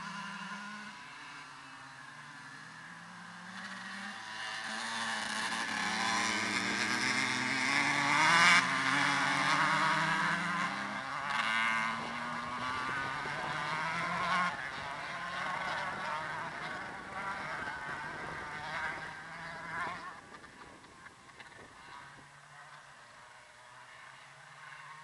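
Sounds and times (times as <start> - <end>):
dirt bike engines buzzing and revving: 0.0 - 25.0.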